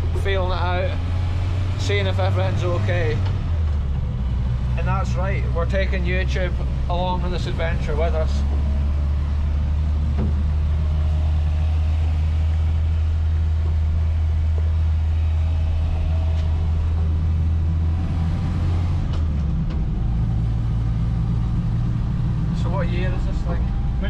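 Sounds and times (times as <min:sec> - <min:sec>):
car engine droning inside cabin: 0:00.0 - 0:24.0.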